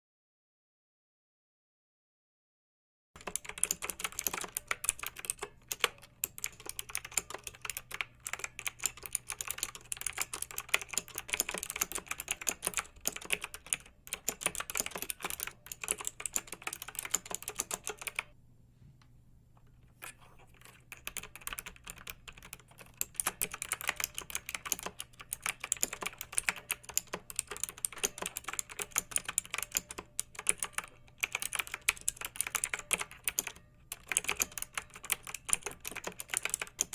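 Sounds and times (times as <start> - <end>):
computer keyboard typing: 3.2 - 18.4, 20.0 - 36.9
faint low hum: 3.2 - 36.9.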